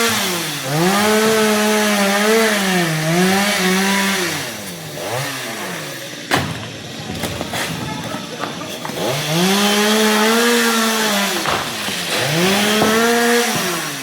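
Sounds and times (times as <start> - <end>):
chainsaw revving and idling: 0.0 - 14.0.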